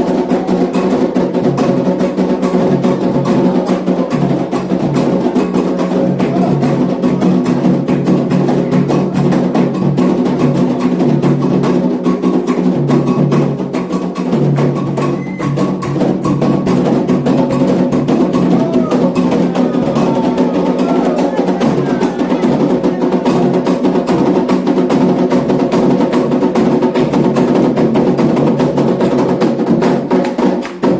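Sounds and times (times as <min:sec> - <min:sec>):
hand drums playing fast rhythm: 0:00.0 - 0:30.9.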